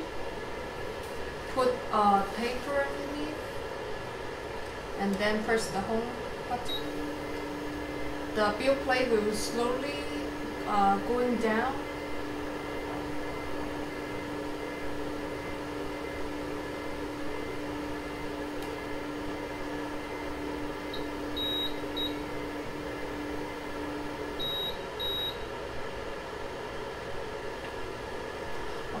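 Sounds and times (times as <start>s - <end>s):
stepper motor humming: 0.0s - 25.7s.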